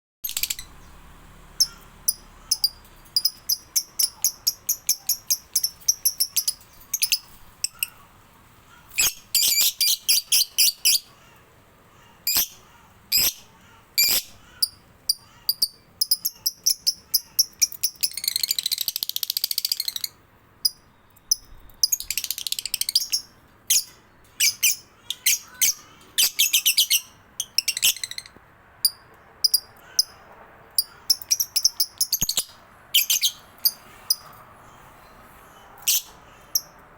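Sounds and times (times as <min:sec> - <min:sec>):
songbird singing: 0:00.2 - 0:36.9.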